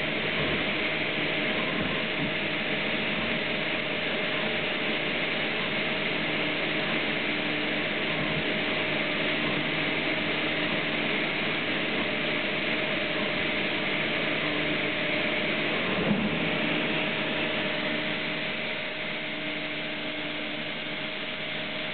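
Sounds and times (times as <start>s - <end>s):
cnc router hissing and humming: 0.0s - 21.9s.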